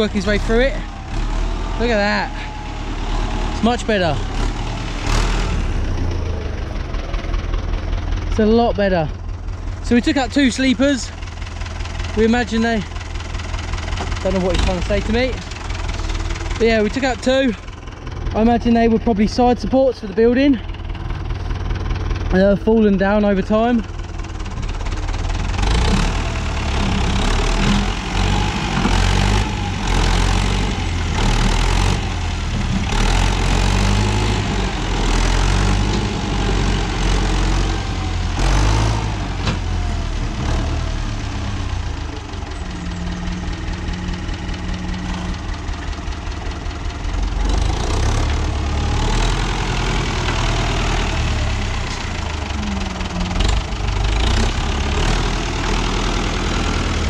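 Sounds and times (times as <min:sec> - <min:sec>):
tractor diesel engine working: 0:00.0 - 0:57.0.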